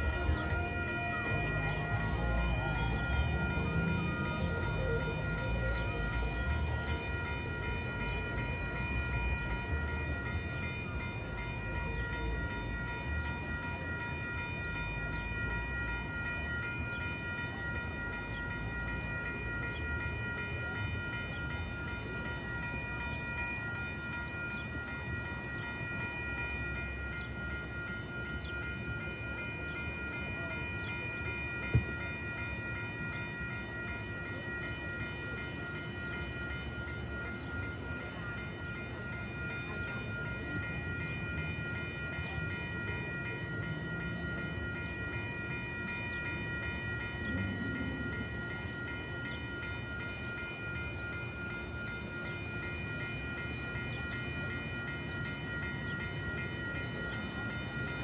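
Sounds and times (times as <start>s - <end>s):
crossing bells ringing: 0.0s - 58.0s
train passing: 0.0s - 58.0s.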